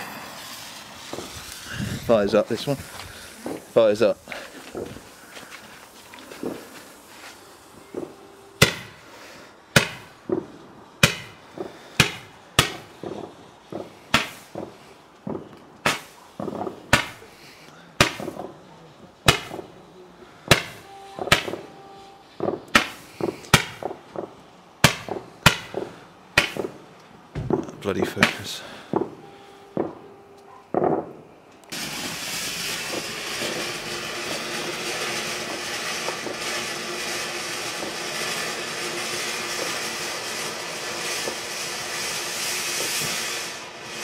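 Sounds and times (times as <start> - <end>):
firework sharp bangs: 0.0 - 17.4, 18.0 - 44.0.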